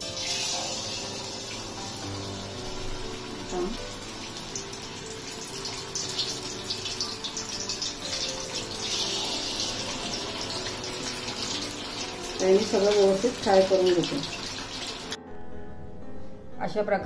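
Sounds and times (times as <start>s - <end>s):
food deep-frying in oil: 0.0s - 15.2s.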